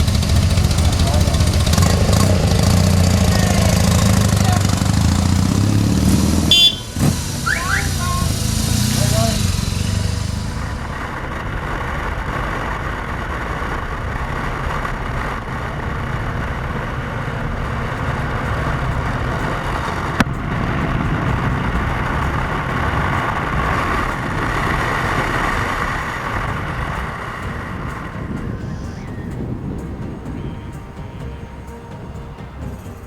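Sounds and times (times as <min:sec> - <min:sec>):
motorcycle engine rumble: 0:00.0 - 0:33.0
road and wind noise: 0:00.0 - 0:33.0.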